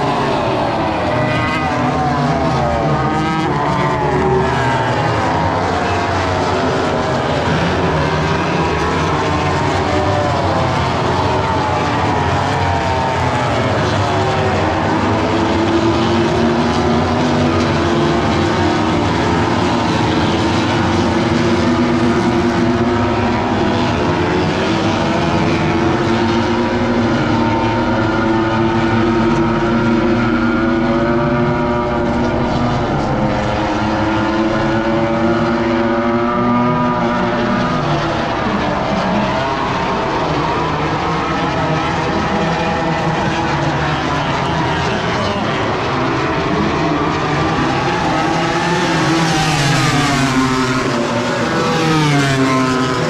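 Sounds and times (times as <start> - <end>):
racing motorcycles passing: 0.0 - 53.0.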